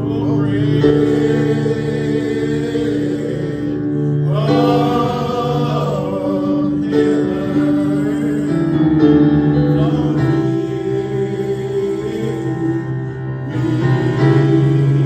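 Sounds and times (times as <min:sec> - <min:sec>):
men singing in harmony: 0:00.0 - 0:15.0.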